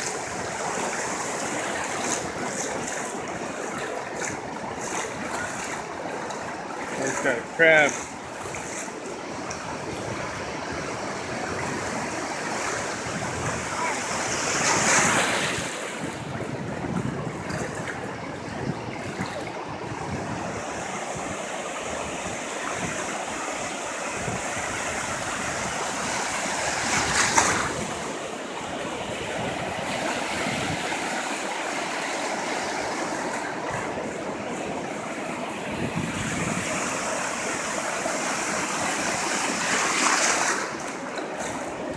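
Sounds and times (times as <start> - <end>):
waves washing onto beach: 0.0 - 41.9.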